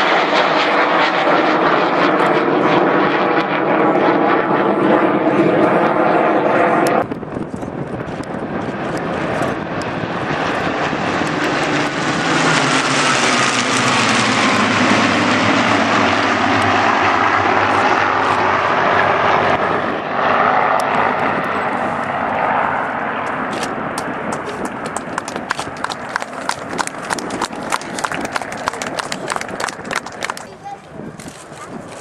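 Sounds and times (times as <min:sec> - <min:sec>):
aircraft piston engines droning: 0:00.0 - 0:32.0.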